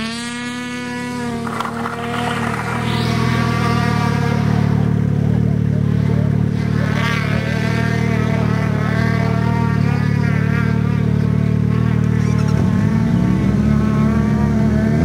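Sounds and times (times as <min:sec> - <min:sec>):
snowmobile engine revving high: 0:00.0 - 0:15.0.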